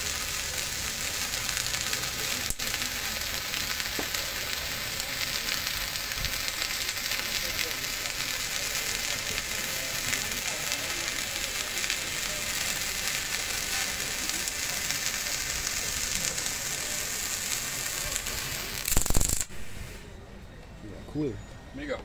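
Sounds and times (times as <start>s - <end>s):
welding arc crackling: 0.0s - 20.1s.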